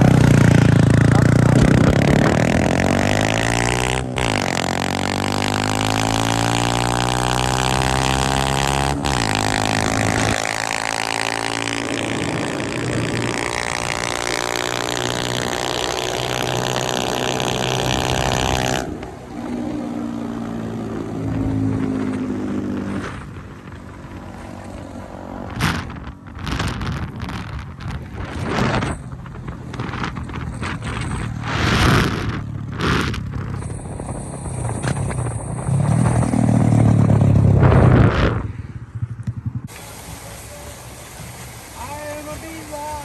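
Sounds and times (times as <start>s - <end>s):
wind noise on microphone: 0.0s - 19.0s, 20.5s - 43.0s
motorcycle engine accelerating: 0.0s - 42.4s.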